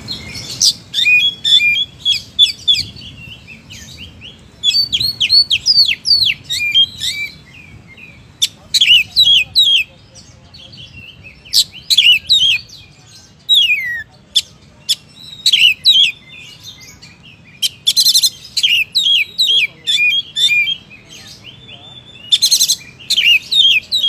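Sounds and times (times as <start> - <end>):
bird singing whistled phrases: 0.0 - 9.9, 10.9 - 24.0.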